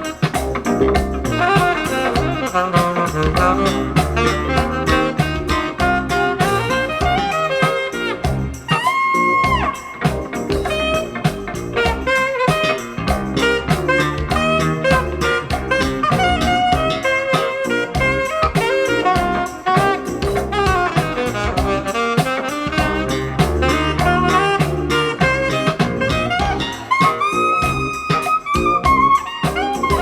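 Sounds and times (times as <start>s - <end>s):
saxophone: 0.0s - 30.0s
smooth jazz from loudspeakers: 0.0s - 30.0s.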